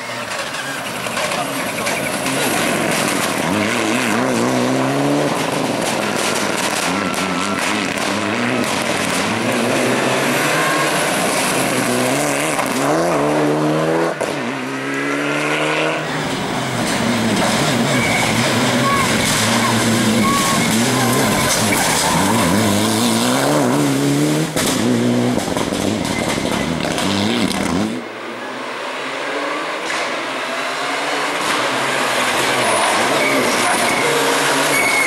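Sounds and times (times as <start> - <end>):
rally car engine revving hard: 0.0 - 28.1, 28.7 - 35.0.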